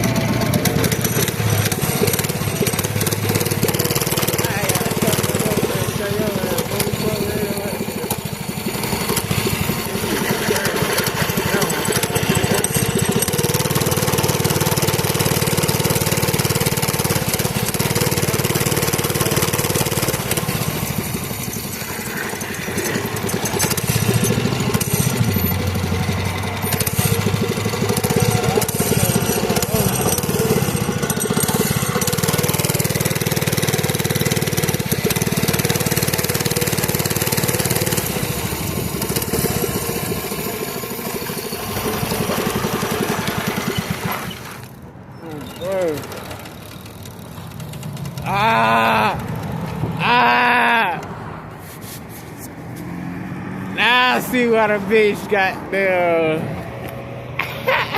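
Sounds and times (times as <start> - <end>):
small bike engine running: 0.0 - 57.9.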